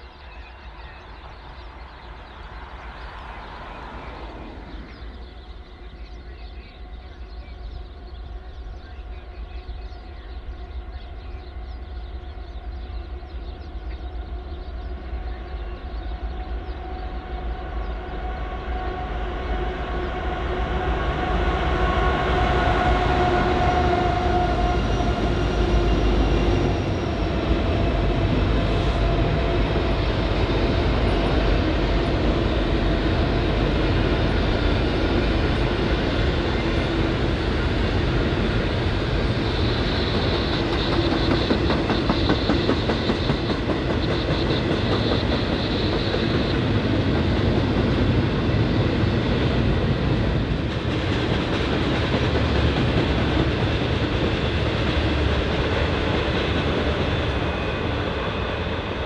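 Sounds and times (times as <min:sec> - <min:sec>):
diesel train rolling past: 0:00.0 - 0:59.0.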